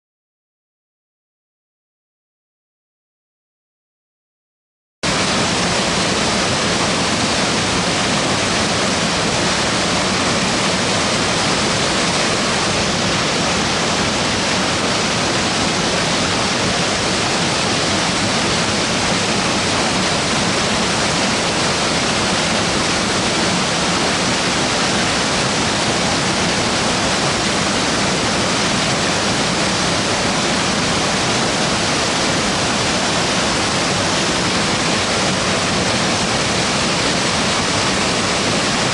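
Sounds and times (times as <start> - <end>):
waterfall rushing: 5.0 - 38.9.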